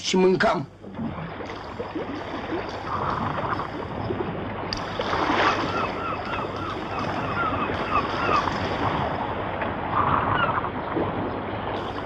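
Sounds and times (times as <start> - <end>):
water and wind rushing: 0.0 - 12.0.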